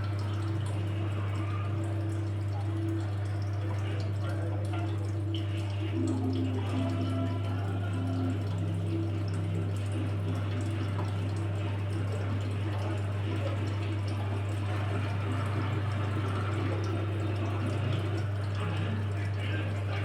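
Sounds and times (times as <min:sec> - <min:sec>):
washing machine hum: 0:00.0 - 0:20.0
water swishing in washing machine: 0:00.0 - 0:20.0.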